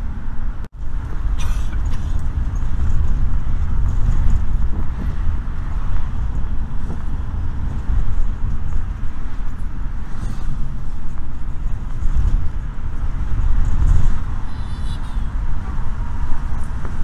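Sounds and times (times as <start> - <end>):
engine and road noise rumble: 0.0 - 17.0.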